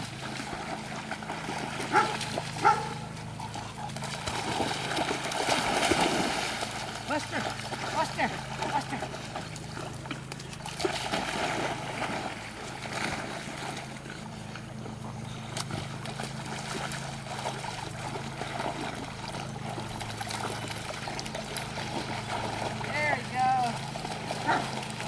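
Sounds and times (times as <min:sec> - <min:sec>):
dogs splashing and swimming in water: 0:00.0 - 0:25.0
steady low hum: 0:00.0 - 0:25.0.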